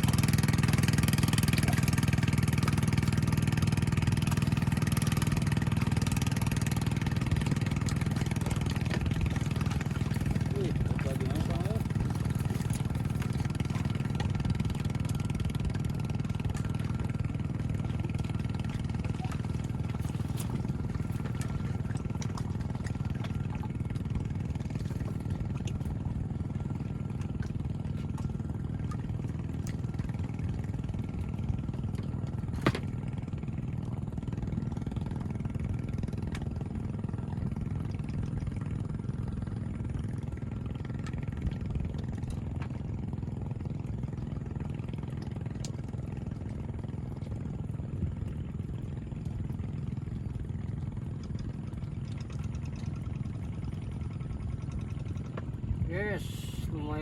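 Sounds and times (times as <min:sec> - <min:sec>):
motor engine rumbling: 0:00.0 - 0:57.0.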